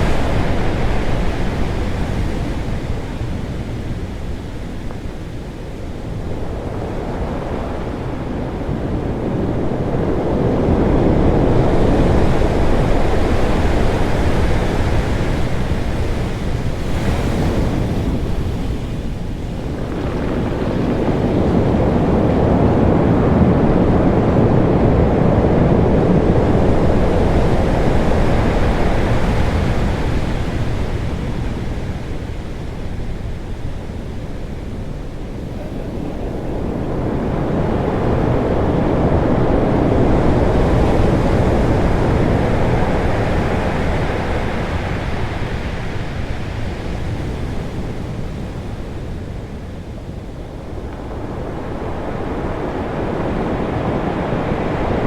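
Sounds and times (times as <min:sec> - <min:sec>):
ocean waves crashing on rocks: 0:00.0 - 0:25.2, 0:25.8 - 0:55.0.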